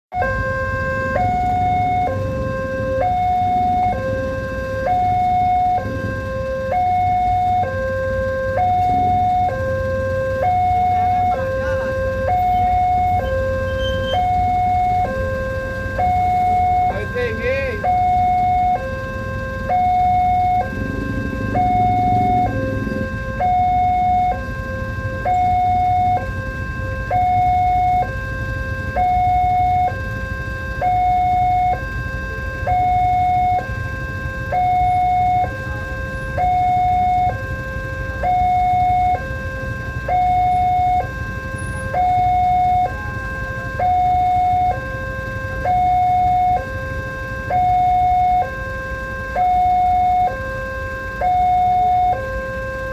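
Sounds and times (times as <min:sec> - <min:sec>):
two-tone crossing alarm: 0:00.1 - 0:52.9.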